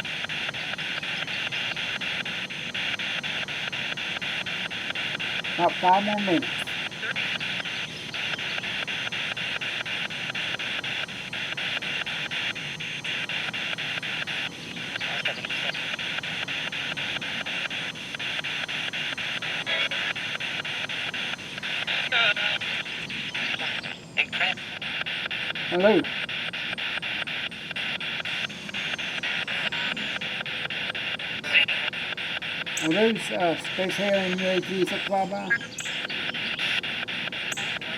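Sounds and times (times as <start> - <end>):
pulsing radio static hiss: 0.0 - 37.9.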